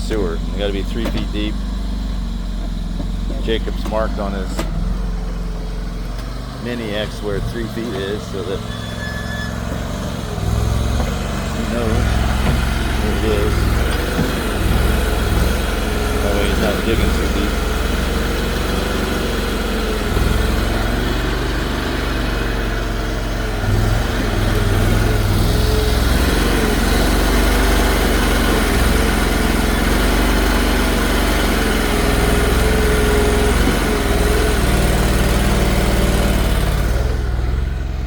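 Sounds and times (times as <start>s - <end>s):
excavator engine drone: 0.0s - 38.0s.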